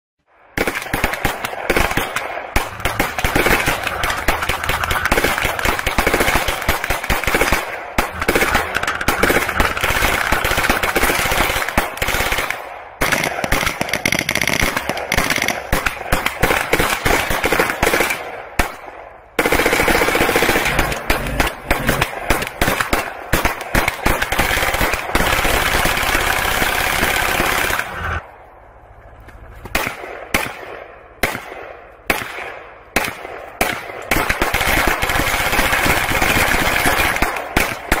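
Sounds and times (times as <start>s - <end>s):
rapid gunfire on steel: 0.5s - 28.2s, 29.7s - 38.0s.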